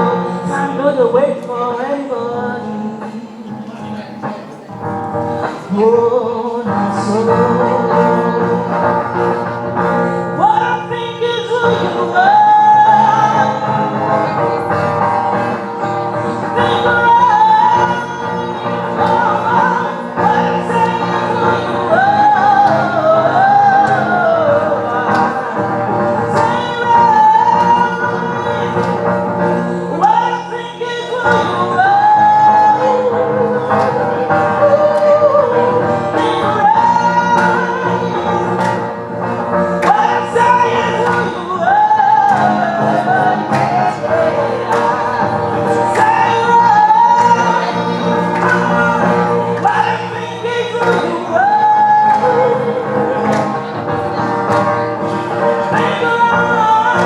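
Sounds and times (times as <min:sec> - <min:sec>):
guitar accompaniment: 0:00.0 - 0:57.0
person singing a slow song: 0:00.0 - 0:57.0.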